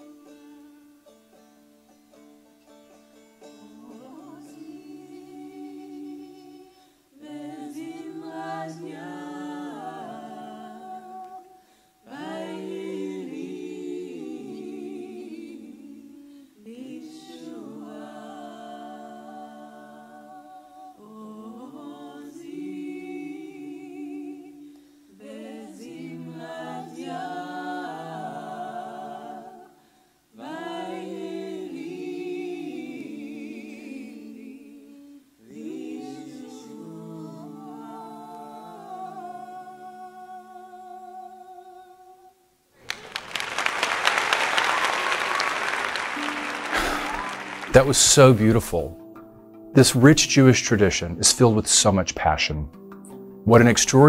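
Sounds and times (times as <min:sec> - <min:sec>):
group singing wordless harmony: 0:00.0 - 0:01.1, 0:03.5 - 0:42.5, 0:43.6 - 0:51.5.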